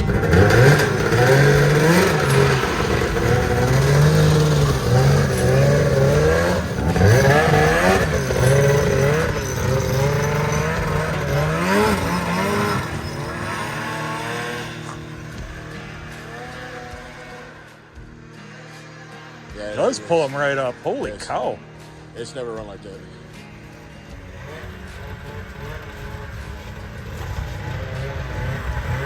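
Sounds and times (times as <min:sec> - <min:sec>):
snowmobile engine revving: 0:00.0 - 0:29.0.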